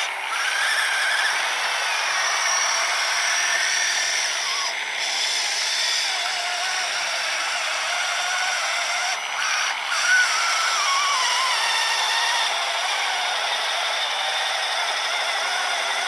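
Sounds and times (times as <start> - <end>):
steady mechanical hiss: 0.0 - 15.0
high-pitched electric motor whine: 0.0 - 16.0.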